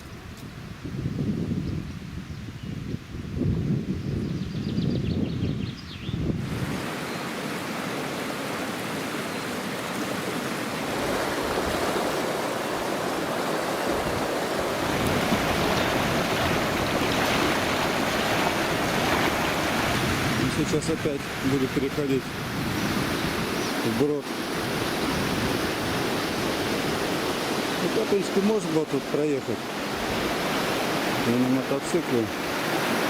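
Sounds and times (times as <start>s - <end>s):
river rushing over stones: 6.4s - 33.0s.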